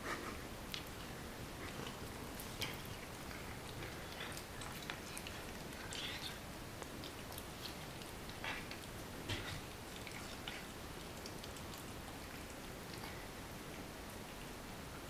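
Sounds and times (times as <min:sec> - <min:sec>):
cat chewing and licking: 0:00.6 - 0:15.0.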